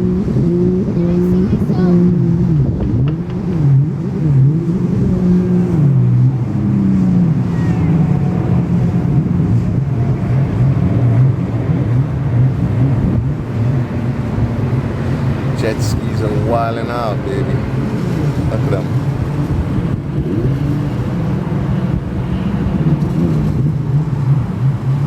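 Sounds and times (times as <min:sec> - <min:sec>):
jet ski engines revving: 0:00.0 - 0:25.0.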